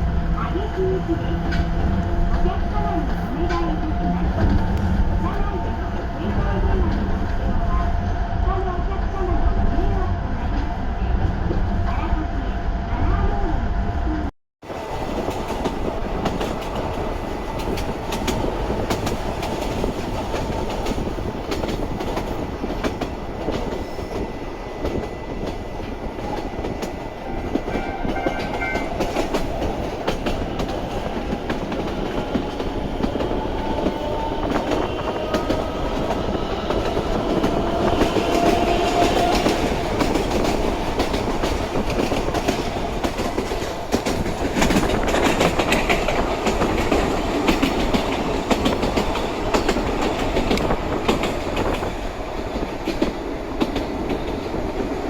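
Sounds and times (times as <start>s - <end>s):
electric train running on rails: 0.0s - 55.0s.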